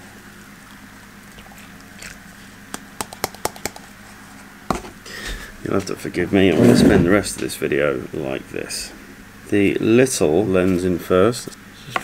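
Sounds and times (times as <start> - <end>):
workshop fan humming: 0.0 - 12.0.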